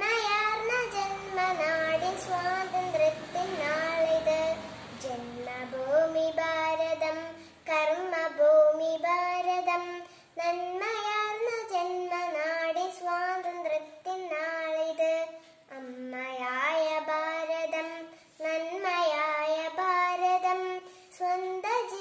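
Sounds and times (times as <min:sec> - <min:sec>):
girl singing: 0:00.0 - 0:22.0.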